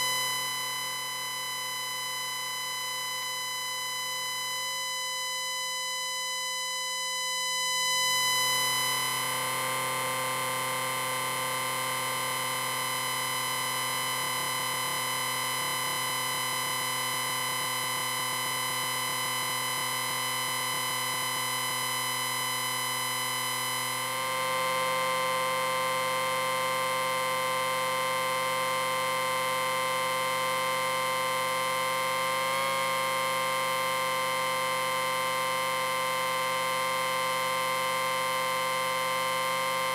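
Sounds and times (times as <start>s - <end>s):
amplifier electronic tone: 0.0s - 39.9s.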